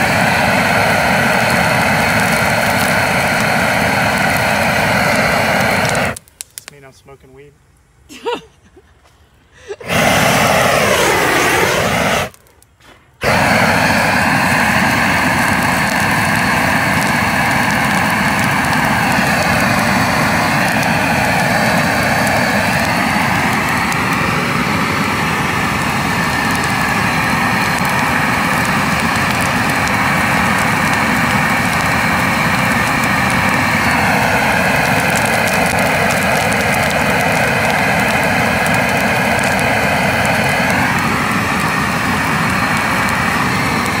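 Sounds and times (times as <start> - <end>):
propane torch flame rushing: 0.0 - 6.9, 9.7 - 44.0.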